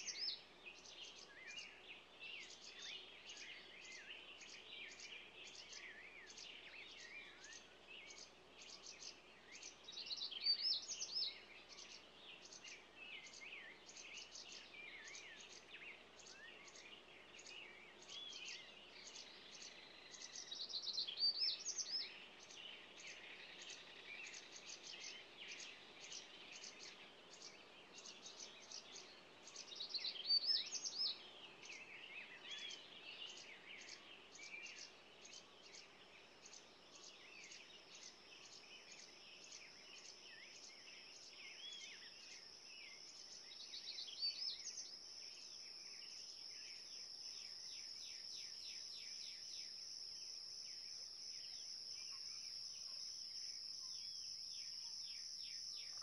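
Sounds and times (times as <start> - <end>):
small songbirds chirping: 0.0 - 56.0
warbling bird song: 0.0 - 56.0.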